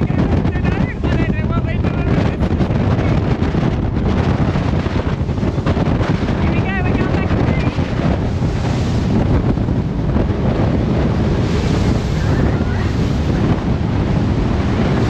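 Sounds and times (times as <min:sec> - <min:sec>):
rushing churning water: 0:00.0 - 0:15.0
wind buffeting the microphone: 0:00.0 - 0:15.0.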